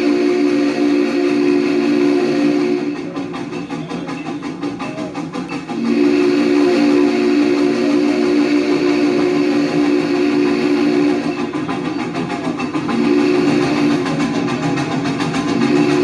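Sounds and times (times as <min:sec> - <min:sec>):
steam locomotive chime whistle: 0:00.0 - 0:16.0
train running noise: 0:00.0 - 0:16.0.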